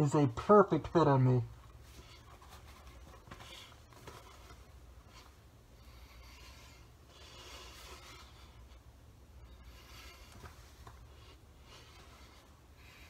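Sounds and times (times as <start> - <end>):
latex mask rubbing and rustling: 0.7 - 13.0.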